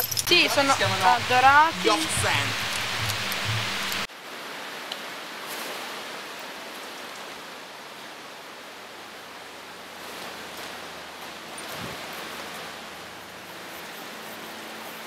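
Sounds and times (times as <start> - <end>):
distant rushing water: 0.0 - 15.0.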